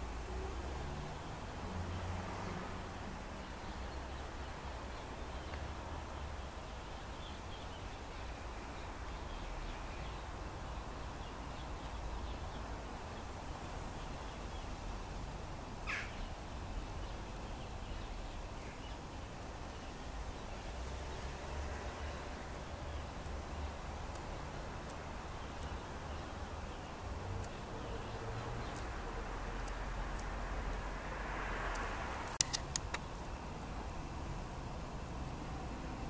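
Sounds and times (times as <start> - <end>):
low rumble and hiss: 0.0 - 36.0.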